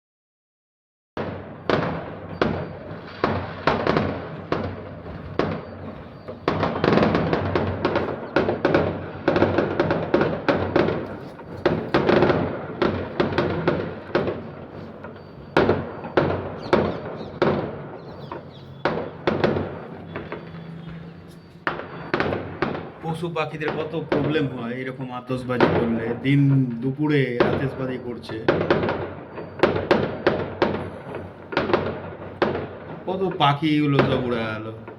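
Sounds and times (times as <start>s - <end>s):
firecrackers banging and crackling: 1.2s - 34.9s.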